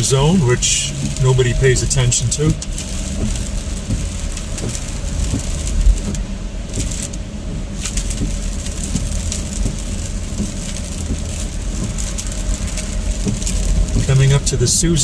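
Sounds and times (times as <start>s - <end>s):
faint crackles of spray: 0.0s - 15.0s
tyre and engine rumble: 0.0s - 15.0s
tyres hissing on wet road: 0.0s - 15.0s.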